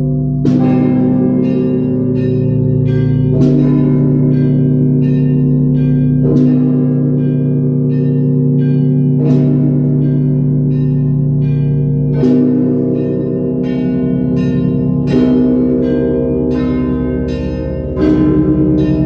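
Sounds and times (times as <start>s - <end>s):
deep heavy bell: 0.0s - 19.0s.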